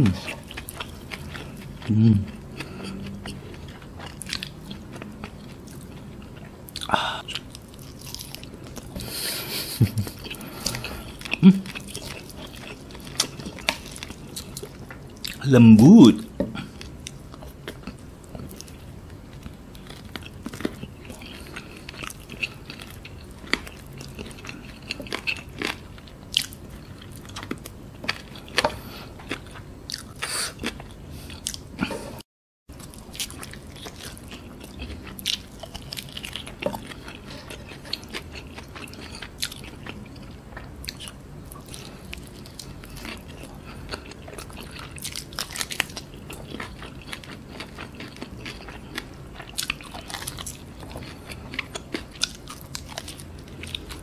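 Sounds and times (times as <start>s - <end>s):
person chewing food: 0.0s - 15.4s, 16.2s - 54.0s.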